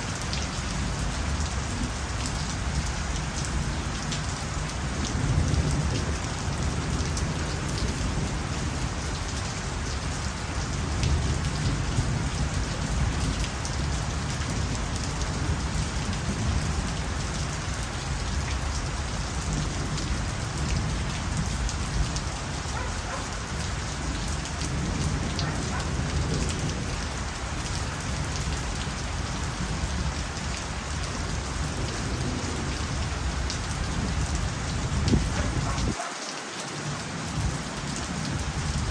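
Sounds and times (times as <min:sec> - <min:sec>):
steady rain falling: 0:00.0 - 0:38.9
raindrops ticking: 0:00.1 - 0:36.4.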